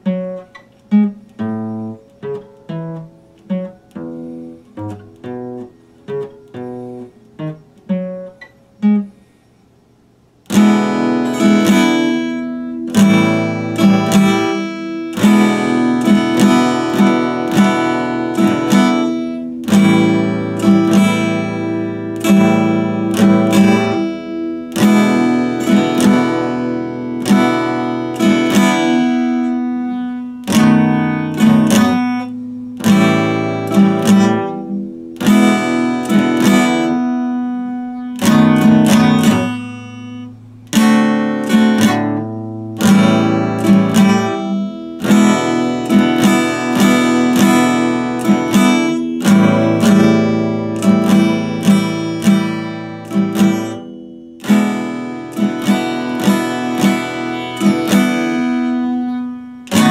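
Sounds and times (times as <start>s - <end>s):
strummed acoustic guitar chords: 0.0s - 9.4s, 10.1s - 59.9s
picked acoustic guitar notes: 0.0s - 59.9s.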